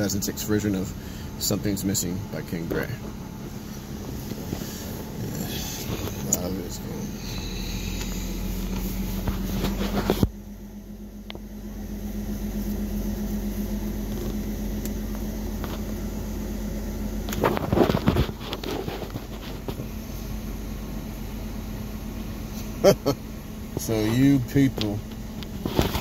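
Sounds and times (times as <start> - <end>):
car engine idling: 0.0 - 26.0
ventilation fan hum: 0.0 - 26.0.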